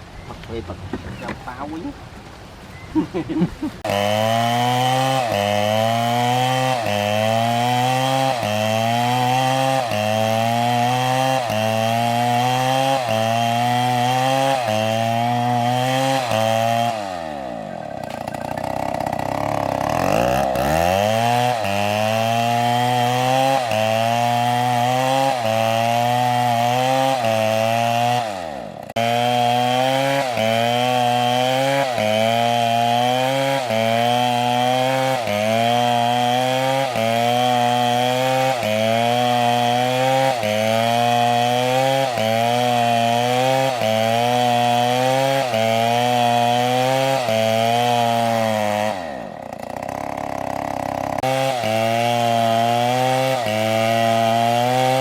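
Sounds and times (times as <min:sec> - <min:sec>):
chainsaw cutting wood: 0:03.0 - 0:55.0.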